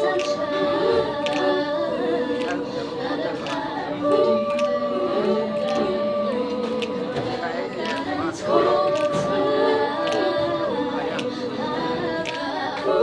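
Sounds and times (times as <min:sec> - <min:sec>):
girls singing in close harmony: 0:00.0 - 0:13.0.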